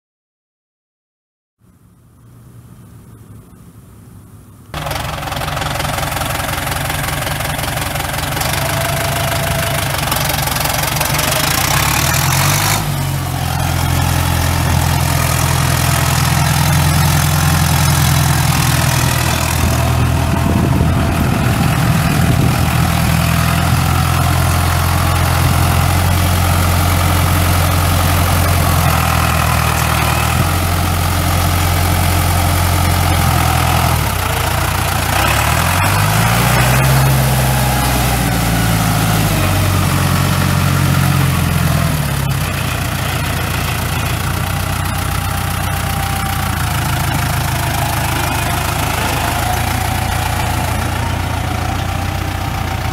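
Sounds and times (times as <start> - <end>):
tractor diesel engine idling and revving: 4.8 - 52.9.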